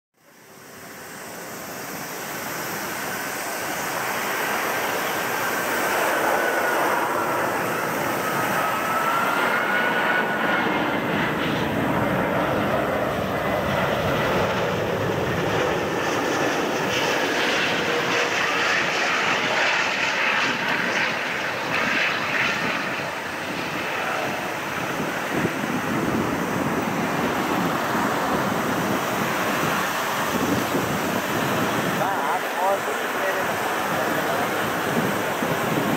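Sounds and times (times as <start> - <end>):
high engine whine: 0.2 - 35.9
jet engine roar: 0.2 - 35.9.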